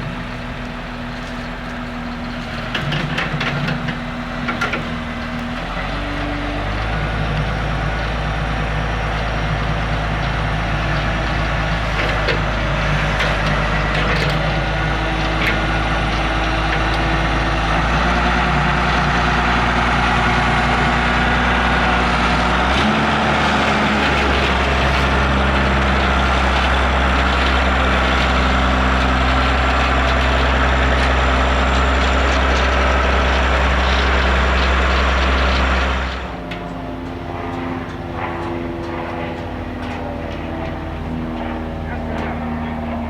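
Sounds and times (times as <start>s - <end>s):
heavy machinery engine running: 0.0s - 43.0s.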